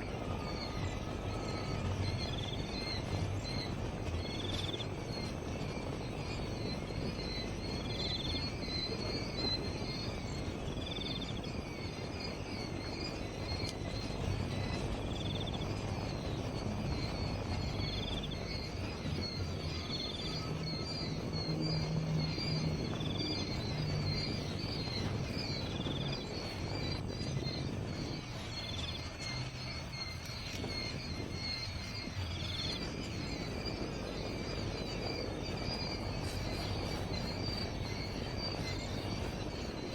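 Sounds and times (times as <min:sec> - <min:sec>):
insects chirping: 0:00.0 - 0:39.9
low outdoor rumble: 0:00.0 - 0:39.9.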